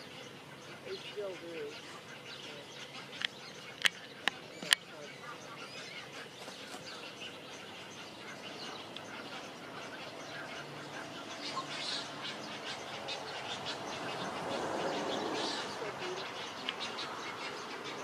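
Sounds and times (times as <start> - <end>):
birds chirping: 0.0 - 18.0
steady background hiss: 0.0 - 18.0.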